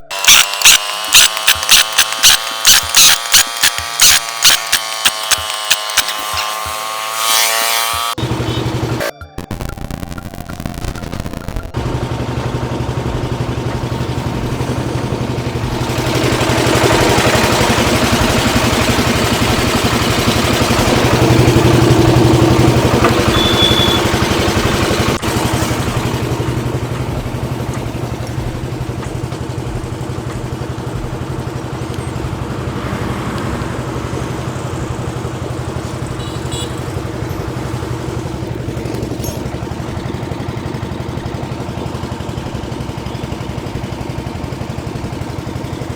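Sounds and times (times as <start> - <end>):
engine running: 0.0 - 9.3, 11.0 - 45.9.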